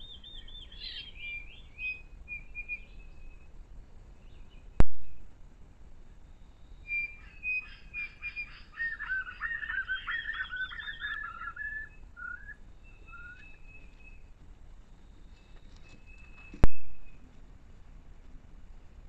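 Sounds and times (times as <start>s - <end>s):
bird singing: 0.0s - 5.3s, 6.1s - 17.4s.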